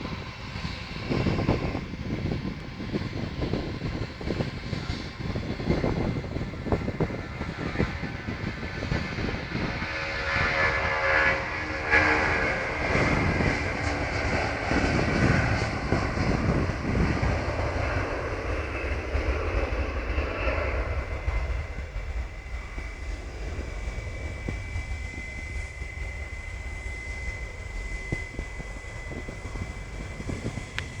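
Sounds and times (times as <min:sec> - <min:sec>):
jet engine rumble at takeoff: 0:00.0 - 0:31.0
thin steady jet whine: 0:00.0 - 0:31.0.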